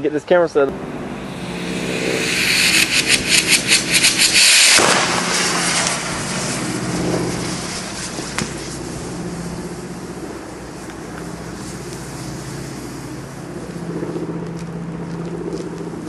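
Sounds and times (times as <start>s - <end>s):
pulsing hissing rush: 0.7s - 14.0s
engine running: 0.7s - 16.0s.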